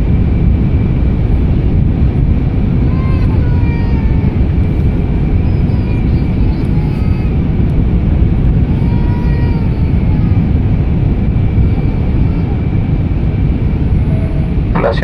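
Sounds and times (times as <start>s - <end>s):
faint steady whine: 0.0s - 15.0s
jet engines and airflow rushing: 0.0s - 15.0s
faint voices: 2.5s - 15.0s.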